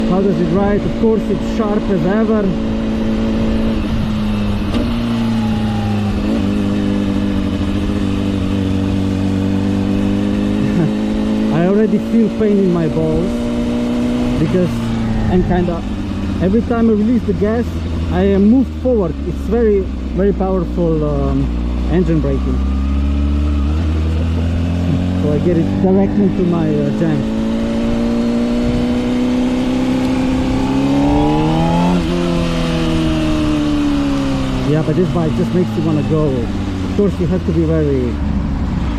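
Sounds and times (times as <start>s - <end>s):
low wind rumble: 0.0s - 38.9s
motorcycle engine at high revs: 0.0s - 38.9s.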